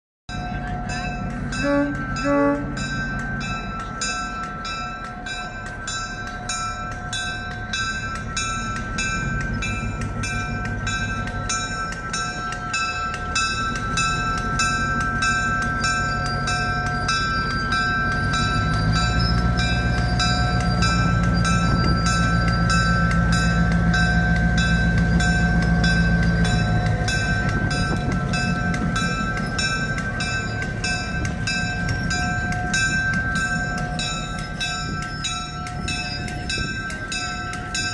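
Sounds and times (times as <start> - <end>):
bell ringing: 0.3 - 37.9
diesel locomotive engine running: 0.3 - 37.9.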